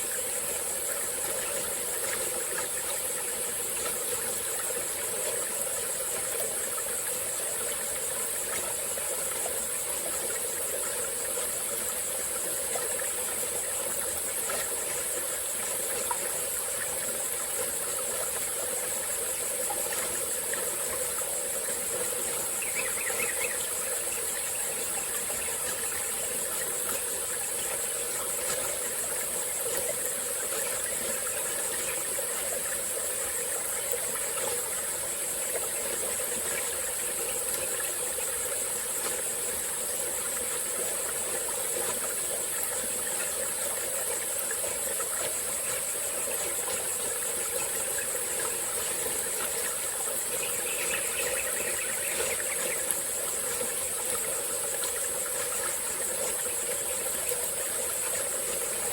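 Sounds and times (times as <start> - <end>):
stream trickling: 0.0 - 58.9.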